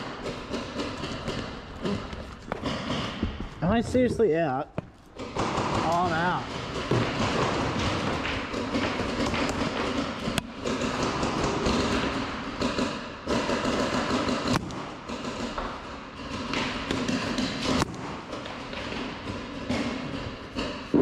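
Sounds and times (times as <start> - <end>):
paintball markers firing: 0.0 - 3.3, 5.2 - 21.0.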